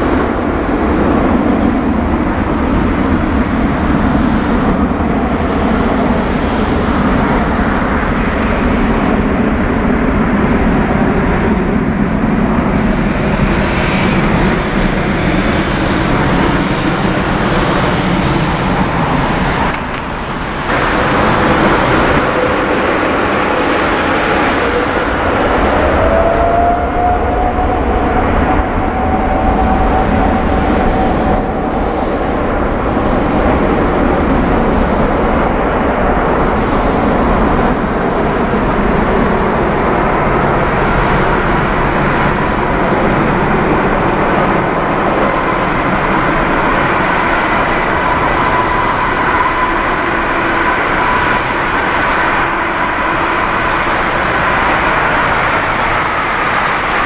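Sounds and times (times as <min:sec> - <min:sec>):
high engine whine: 0:00.0 - 0:57.0
jet engine roar: 0:00.0 - 0:57.0.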